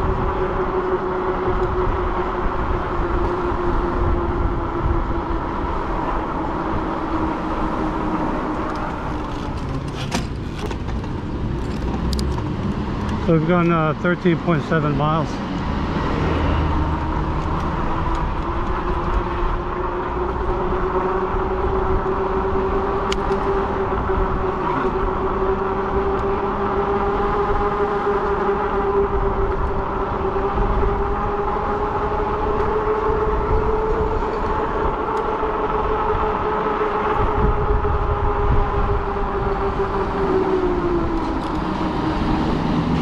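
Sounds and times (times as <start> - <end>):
e-bike drive and tyres whining: 0.0 - 43.0.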